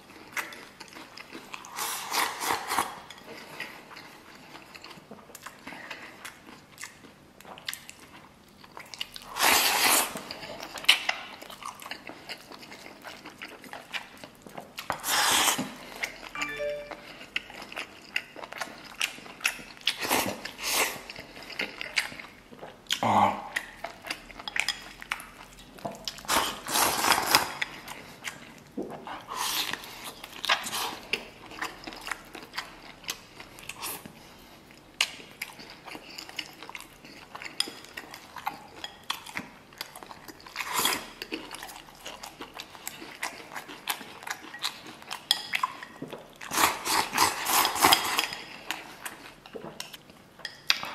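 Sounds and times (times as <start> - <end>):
wet chewing: 0.0 - 16.4, 17.1 - 50.9.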